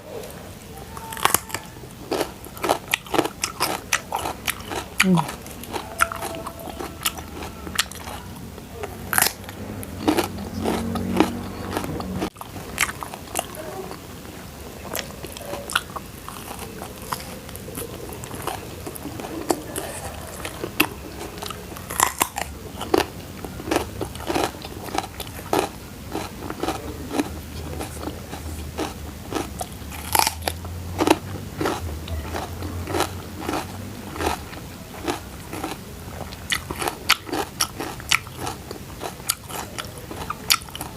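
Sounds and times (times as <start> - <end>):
person chewing crunchy food: 1.0 - 40.9.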